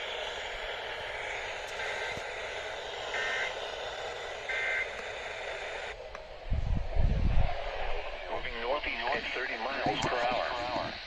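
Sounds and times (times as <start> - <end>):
radio receiver hiss: 0.0 - 6.4, 7.5 - 11.0.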